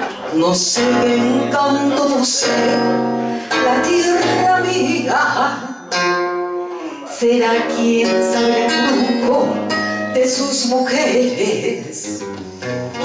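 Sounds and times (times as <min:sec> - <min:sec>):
acoustic guitar: 0:00.0 - 0:13.0
woman singing into a microphone: 0:00.1 - 0:12.3.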